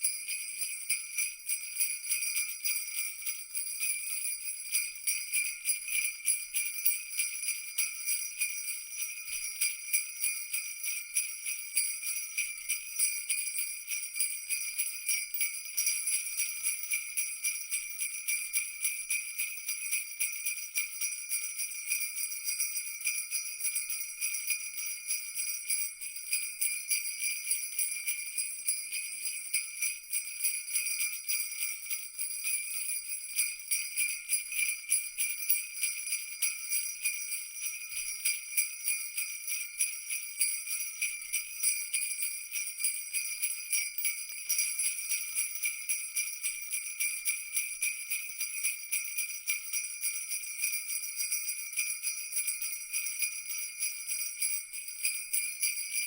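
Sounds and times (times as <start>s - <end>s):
jingle bells shaking: 0.0s - 56.0s.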